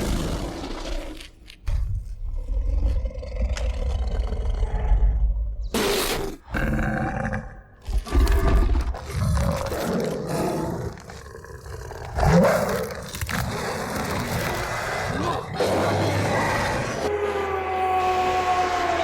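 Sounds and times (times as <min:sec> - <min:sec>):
werewolf roars and growls: 0:02.4 - 0:19.0.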